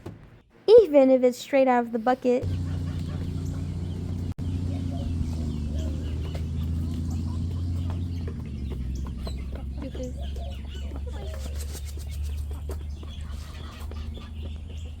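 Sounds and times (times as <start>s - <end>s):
chicks peeping: 2.4s - 15.0s
hens clucking: 2.4s - 15.0s.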